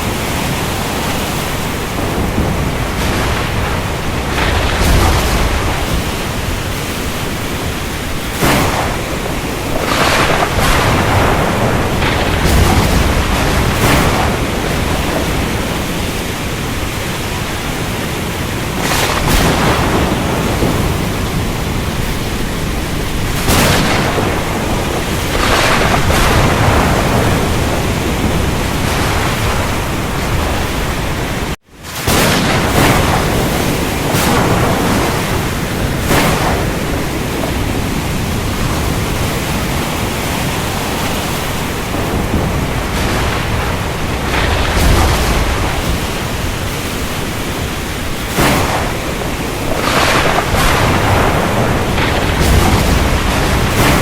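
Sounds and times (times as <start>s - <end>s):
rain: 0.0s - 54.0s
surf: 0.0s - 54.0s
thunder rumbles: 0.0s - 54.0s.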